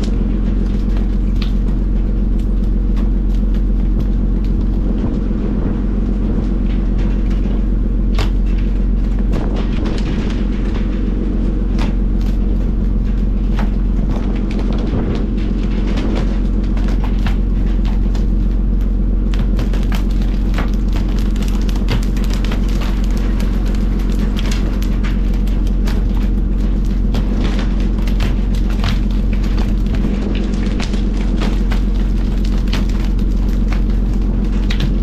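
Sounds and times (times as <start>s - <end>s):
boat engine droning: 0.0s - 35.0s
fish slapping on metal deck: 0.0s - 35.0s.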